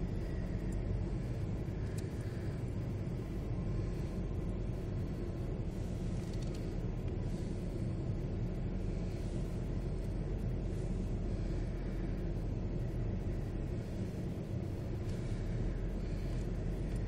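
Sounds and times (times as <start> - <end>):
car cabin engine and tyre rumble: 0.0 - 17.0.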